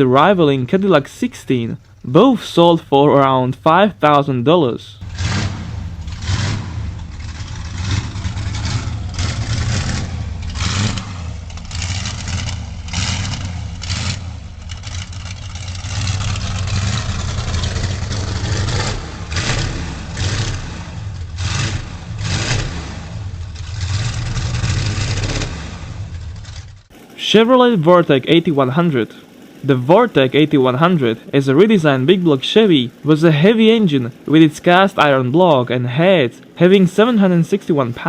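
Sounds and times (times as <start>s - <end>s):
engine running with sharp rasps: 0.0s - 38.0s.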